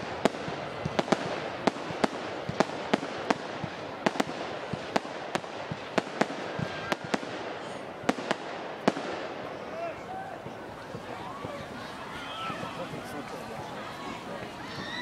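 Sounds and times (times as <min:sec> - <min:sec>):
fireworks bangs: 0:00.0 - 0:15.0
steady background noise: 0:00.0 - 0:15.0.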